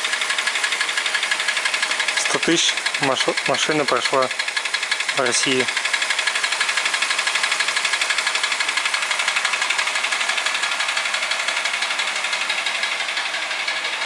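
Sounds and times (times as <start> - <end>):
car engine knocking: 0.0 - 14.0.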